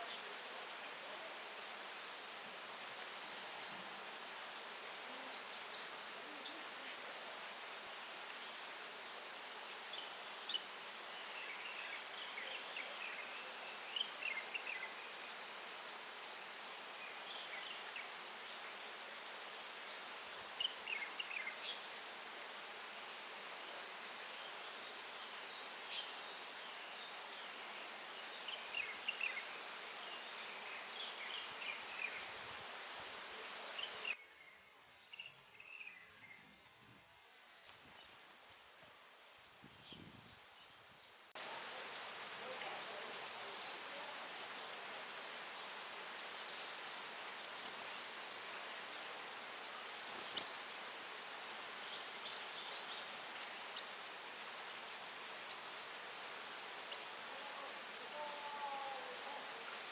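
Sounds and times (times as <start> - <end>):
outdoor hiss: 0.0 - 59.9.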